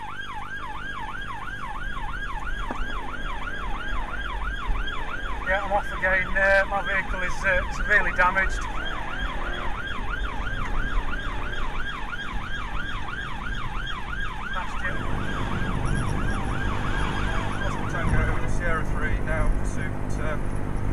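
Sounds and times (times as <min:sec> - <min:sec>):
police siren yelping: 0:00.0 - 0:19.4
engine and road rumble: 0:00.0 - 0:20.9.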